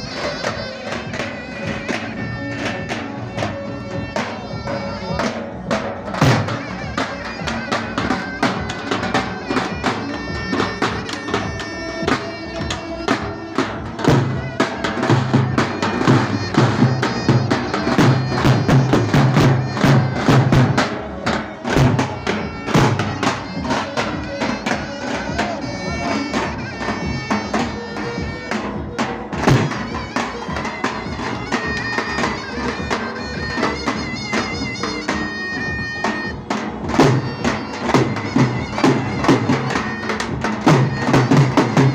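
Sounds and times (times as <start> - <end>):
double-headed drum beating: 0.0 - 41.9
shrill reedy pipe melody: 0.0 - 41.9.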